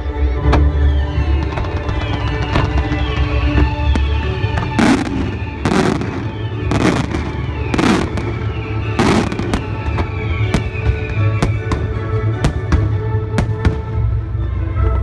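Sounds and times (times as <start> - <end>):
music with sustained notes: 0.0 - 15.0
fireworks bangs and pops: 1.4 - 13.9.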